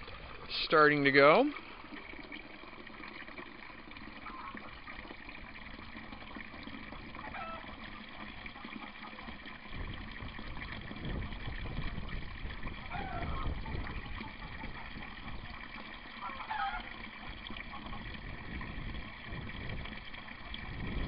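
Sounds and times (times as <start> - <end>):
water pouring into a tub: 0.0 - 21.0.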